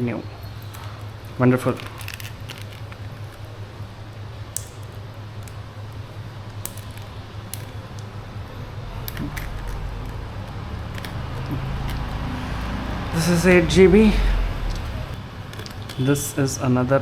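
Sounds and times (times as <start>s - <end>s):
steady low hum: 0.0s - 17.0s
handling noises: 0.4s - 16.4s.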